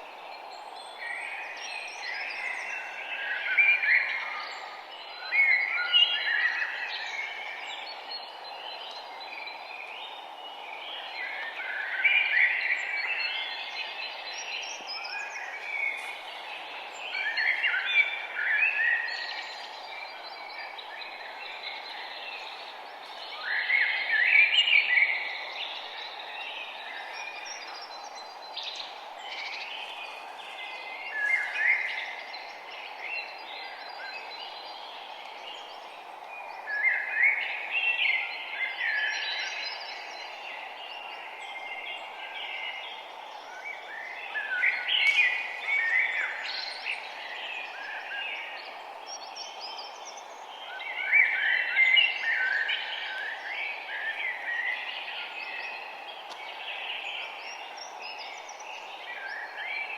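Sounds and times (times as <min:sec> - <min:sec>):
birds singing and chirping: 0:00.0 - 0:59.9
steady background hiss: 0:00.0 - 0:59.9.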